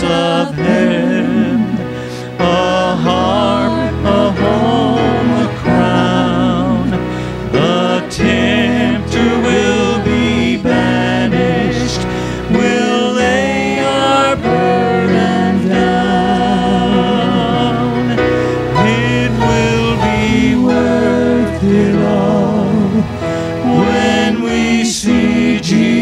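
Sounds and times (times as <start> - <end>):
vocal quartet singing a hymn: 0.0 - 26.0.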